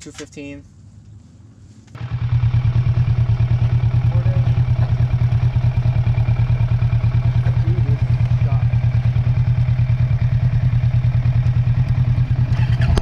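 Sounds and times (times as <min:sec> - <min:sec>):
motorcycle engine starting and idling: 0:01.9 - 0:13.0.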